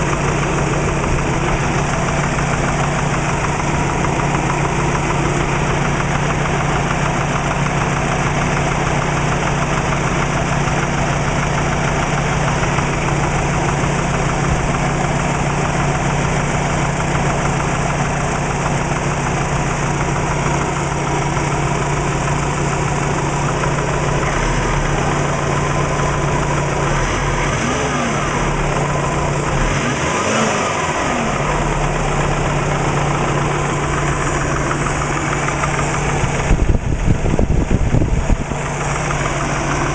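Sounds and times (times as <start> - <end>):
car engine idling: 0.0 - 39.9
repeated engine knock: 0.0 - 39.9.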